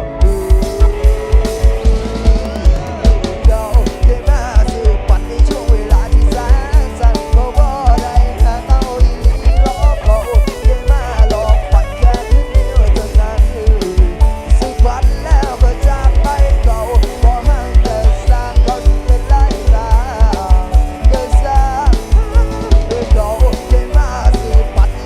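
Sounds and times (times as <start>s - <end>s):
heavy bass drum beat: 0.0s - 25.0s
wavering lead melody: 0.0s - 25.0s.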